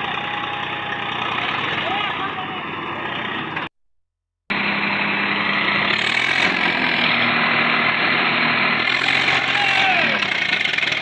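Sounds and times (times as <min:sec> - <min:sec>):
diesel tractor engine running: 0:00.0 - 0:03.8, 0:04.5 - 0:11.0.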